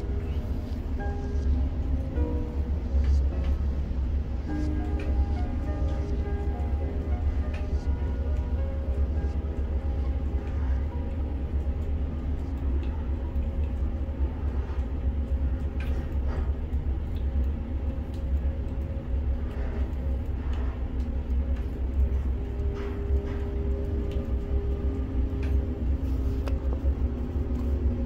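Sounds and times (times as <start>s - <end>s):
faint clicks: 4.5s - 28.0s.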